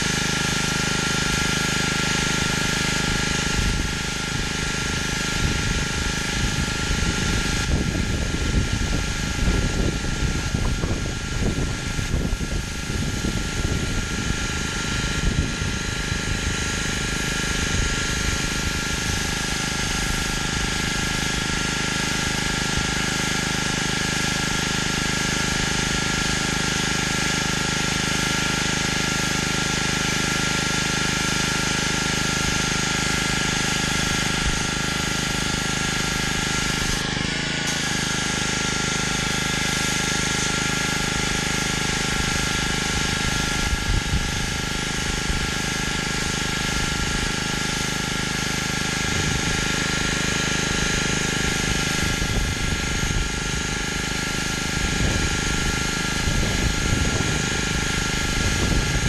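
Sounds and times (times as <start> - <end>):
pressure washer running: 0.0 - 59.0
water spray hissing on concrete: 0.0 - 59.0.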